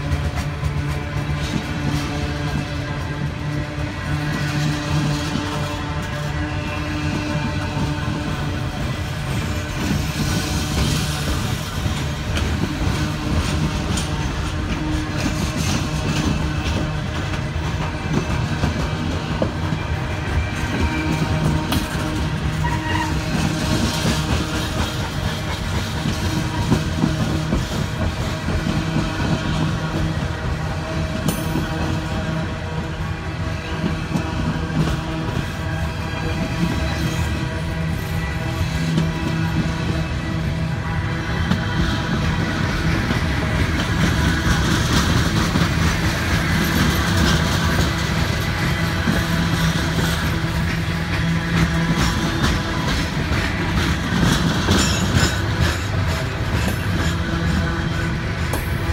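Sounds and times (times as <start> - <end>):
freight train rumbling past: 0.0 - 58.9
train wheels clicking over joints: 0.0 - 58.9.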